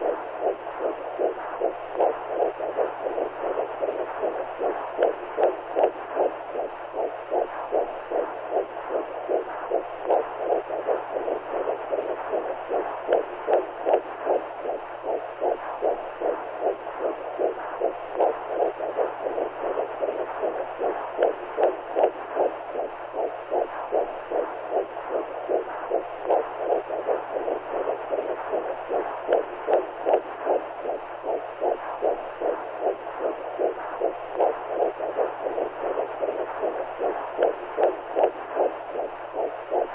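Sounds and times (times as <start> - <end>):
faint low hum: 0.0 - 39.9
muffled heartbeat whooshing: 0.0 - 39.9.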